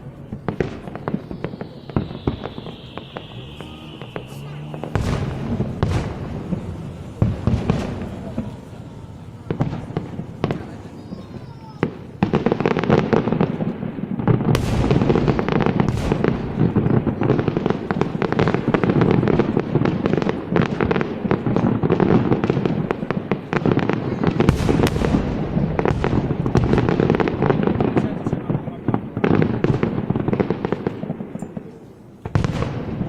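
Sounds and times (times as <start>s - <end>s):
deep firework booms: 0.0s - 33.0s
fireworks crackling and banging: 0.0s - 33.0s.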